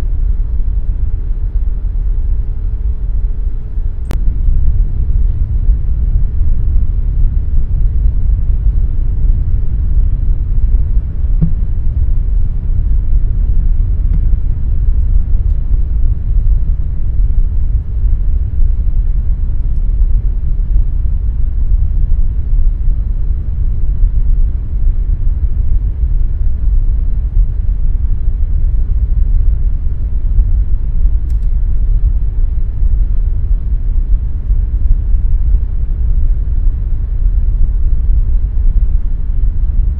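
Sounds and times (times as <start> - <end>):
air conditioner rumble: 0.0 - 39.9
faint constant hum: 0.0 - 39.9.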